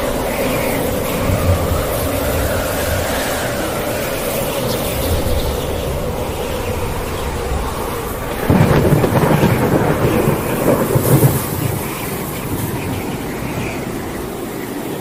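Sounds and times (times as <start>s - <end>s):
rain: 0.0s - 15.0s
thunder rumble: 0.0s - 15.0s.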